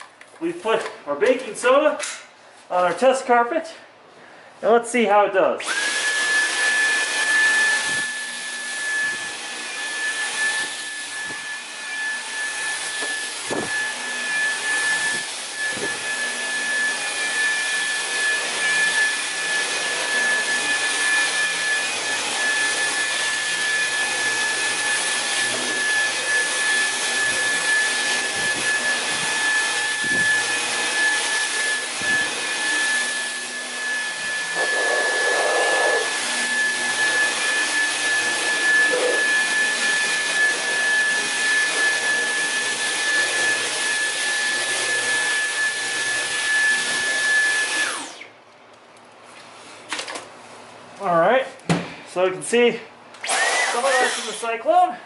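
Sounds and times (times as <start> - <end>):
vacuum cleaner whine: 5.6 - 48.4, 51.8 - 54.9.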